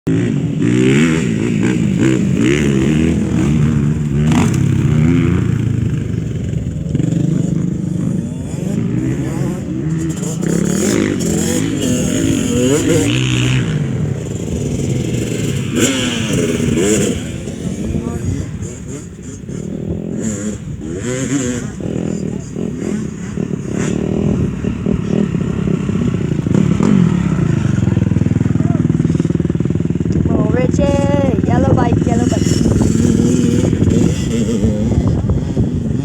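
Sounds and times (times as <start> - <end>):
dirt bike engines revving: 0.1 - 36.0.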